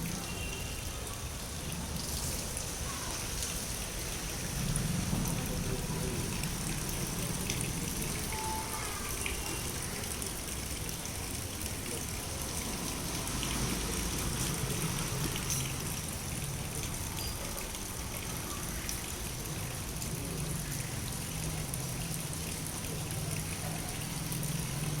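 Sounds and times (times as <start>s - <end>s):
rain falling: 0.0s - 25.0s
water gushing and trickling: 0.0s - 25.0s.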